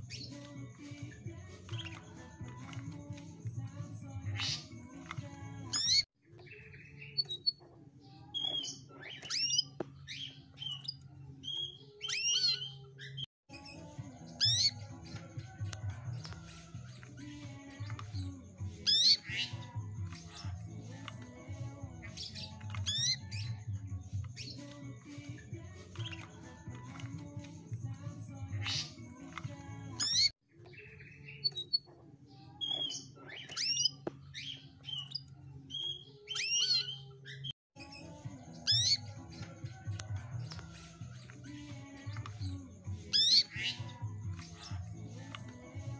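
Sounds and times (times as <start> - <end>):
canary chirping and whistling: 0.0 - 45.9.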